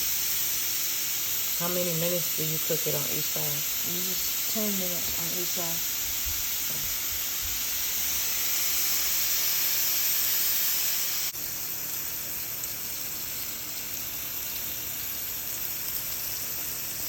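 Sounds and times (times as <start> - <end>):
burger patty sizzling in a pan: 0.0 - 17.0.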